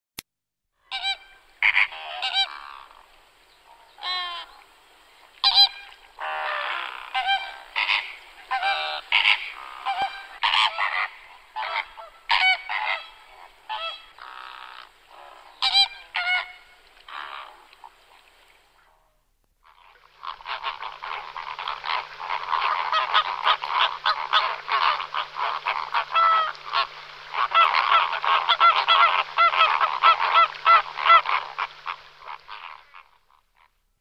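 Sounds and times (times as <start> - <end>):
flamingos honking: 0.8 - 18.2, 18.8 - 33.8.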